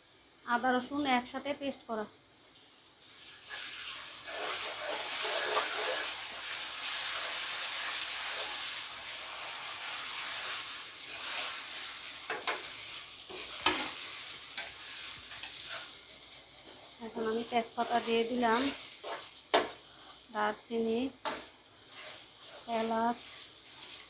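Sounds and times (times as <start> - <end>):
paste sizzling in hot oil: 0.1 - 24.0.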